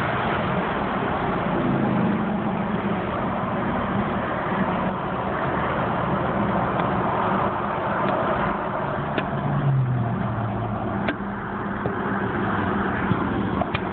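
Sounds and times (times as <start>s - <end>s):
car engine hum: 0.0s - 13.9s
road and wind noise: 0.0s - 13.9s.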